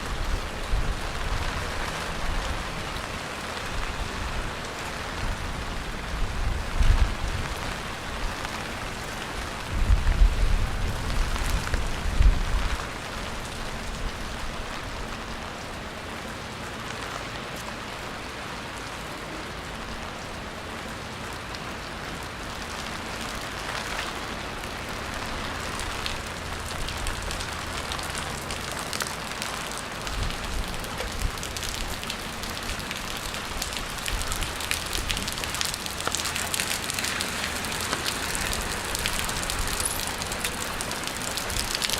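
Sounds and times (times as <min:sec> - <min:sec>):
rain falling on wet street: 0:00.0 - 0:41.9.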